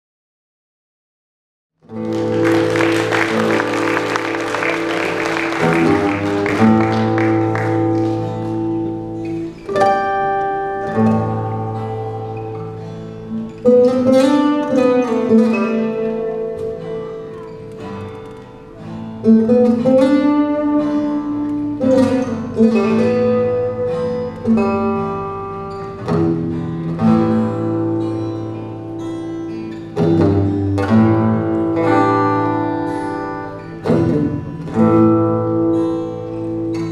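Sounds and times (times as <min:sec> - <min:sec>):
acoustic guitars playing: 0:01.8 - 0:36.9.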